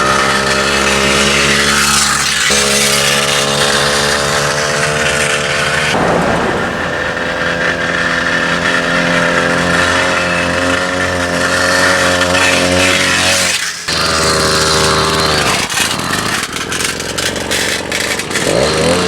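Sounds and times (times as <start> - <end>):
two-stroke engine at high revs: 0.0 - 19.0.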